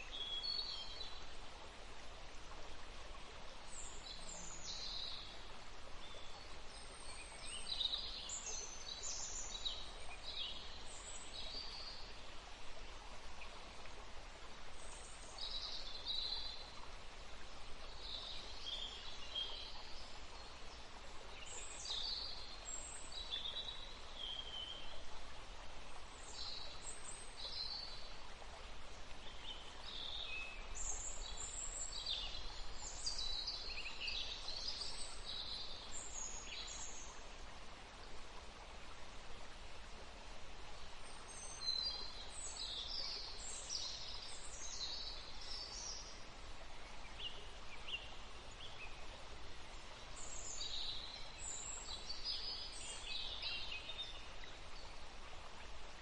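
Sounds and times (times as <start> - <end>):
forest birds chirping: 0.0 - 1.8, 2.4 - 25.1, 25.7 - 56.0
soft breeze hiss: 0.0 - 56.0.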